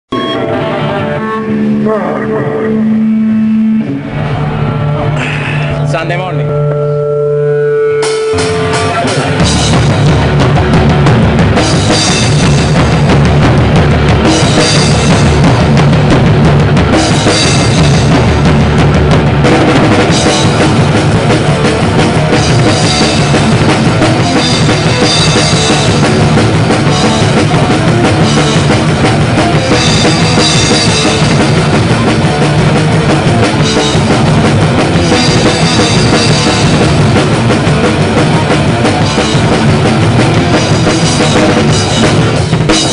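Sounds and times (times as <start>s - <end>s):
drum kit played hard: 0.1s - 42.9s
electric guitar: 0.1s - 42.9s.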